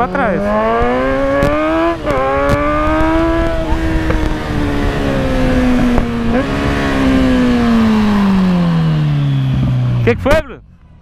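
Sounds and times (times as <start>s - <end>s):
motorcycle engine at high revs: 0.0s - 10.4s.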